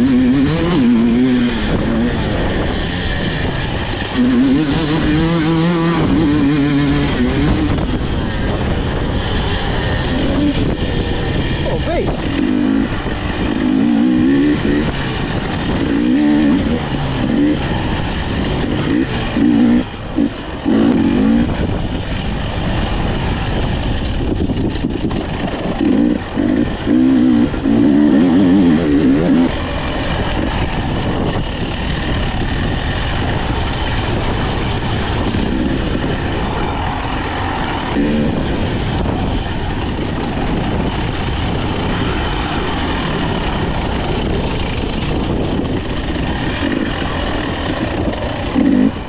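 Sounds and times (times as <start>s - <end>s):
two-stroke dirt bike engine revving: 0.0s - 49.0s.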